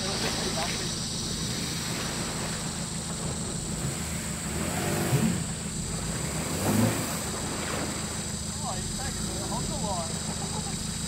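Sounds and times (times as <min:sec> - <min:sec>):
car engine under load: 0:00.0 - 0:11.0
water sloshing around wheels: 0:00.0 - 0:11.0.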